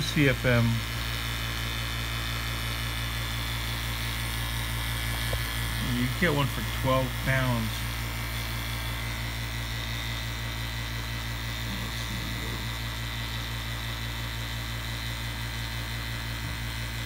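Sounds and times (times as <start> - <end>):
vacuum pump humming and hissing: 0.0 - 17.0.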